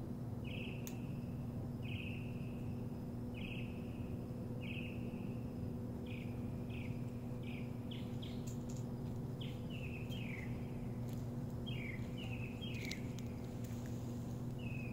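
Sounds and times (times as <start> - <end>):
steady low hum: 0.0 - 14.9
songbird chirping: 0.4 - 14.9.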